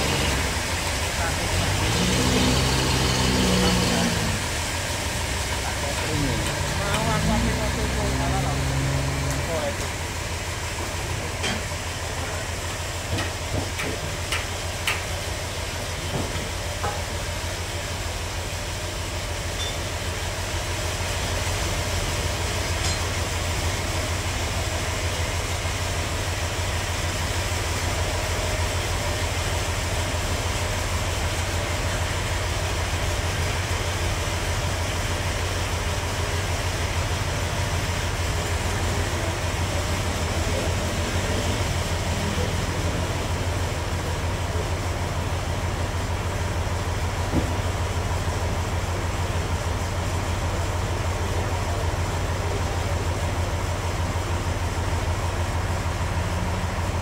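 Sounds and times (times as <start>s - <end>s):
forklift engine running: 0.0s - 57.0s.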